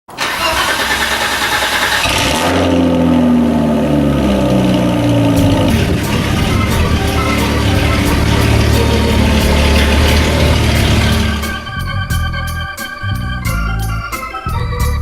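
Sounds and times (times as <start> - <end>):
car engine revving: 0.1 - 13.4.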